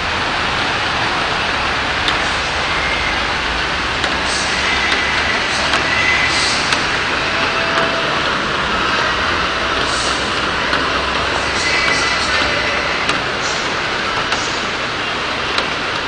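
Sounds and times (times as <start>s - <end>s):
heavy rain pouring: 0.0s - 16.0s
raindrops ticking on surfaces: 0.0s - 16.0s.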